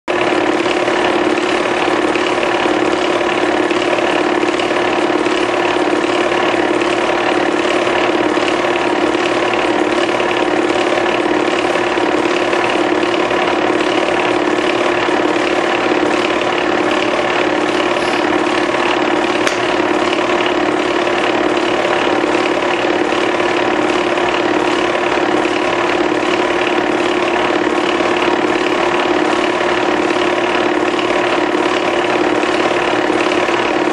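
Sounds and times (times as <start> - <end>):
fast even ticking of projector: 0.1 - 33.9
film projector whirring: 0.1 - 33.9.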